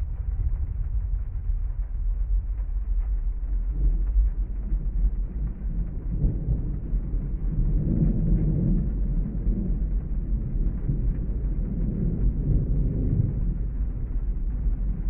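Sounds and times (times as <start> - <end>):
rolling thunder rumble: 0.0 - 15.0
steady rain: 0.0 - 15.0.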